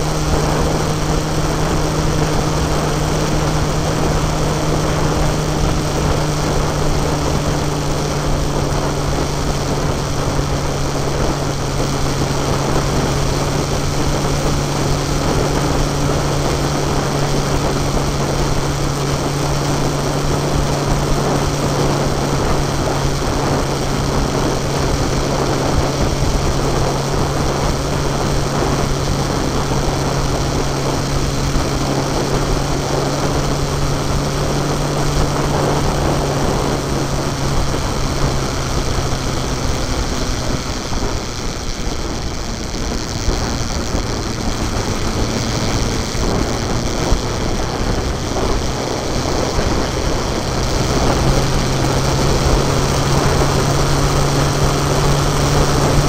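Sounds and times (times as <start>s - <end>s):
vehicle engine cruising: 0.0s - 56.0s
wind and road noise: 0.0s - 56.0s.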